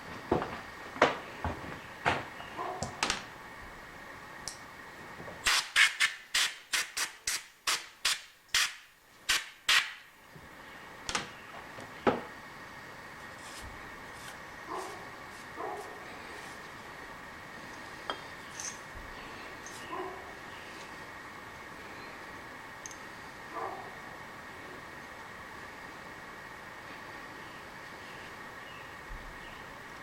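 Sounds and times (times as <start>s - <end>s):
faint shop hum: 0.0s - 30.0s.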